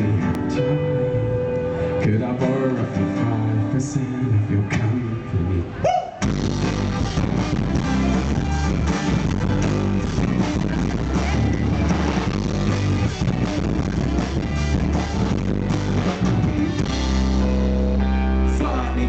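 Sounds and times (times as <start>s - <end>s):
electric guitar: 0.0s - 19.0s
live rock band playing: 0.0s - 19.0s.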